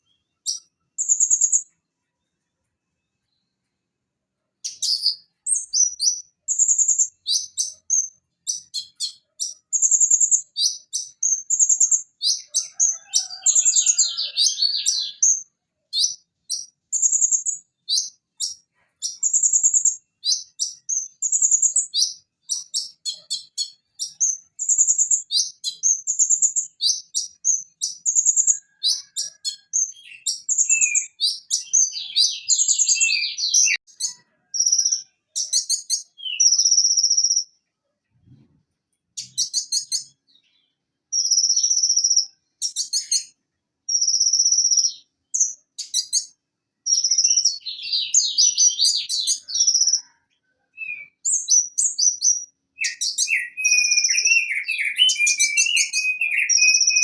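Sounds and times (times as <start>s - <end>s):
sunbird singing: 0.0s - 1.7s, 4.6s - 37.5s, 39.2s - 50.1s, 50.8s - 57.0s.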